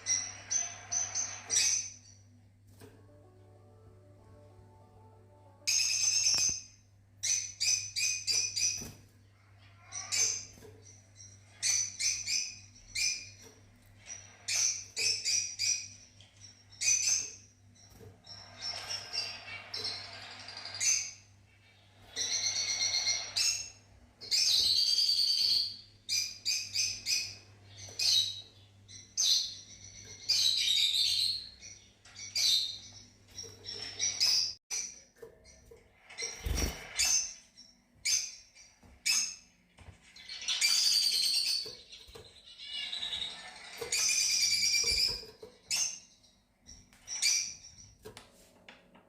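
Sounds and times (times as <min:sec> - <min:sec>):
lovebirds chirping: 0:03.9 - 0:48.0.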